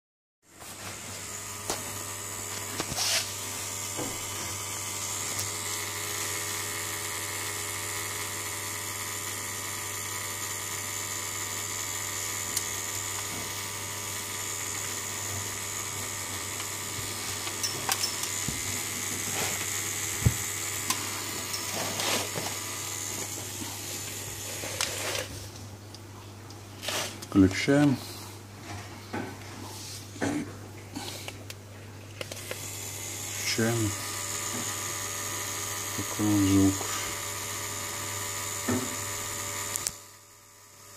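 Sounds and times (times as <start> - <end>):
aquarium filter humming: 0.5 - 40.9.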